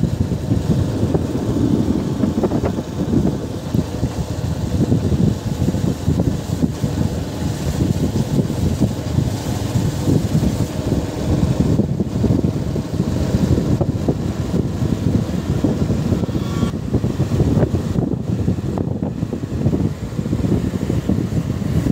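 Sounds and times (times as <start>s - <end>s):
motorcycle engine and road rumble: 0.0s - 21.9s
wind buffeting microphone: 0.0s - 21.9s.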